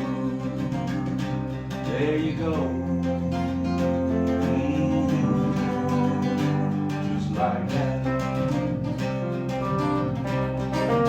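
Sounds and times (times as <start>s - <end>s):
acoustic guitar strumming: 0.0s - 11.0s
steady bass: 0.0s - 11.0s.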